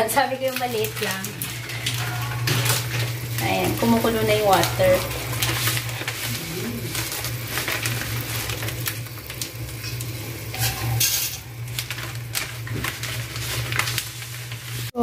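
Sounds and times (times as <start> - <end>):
plastic packet crinkling: 0.0 - 14.9.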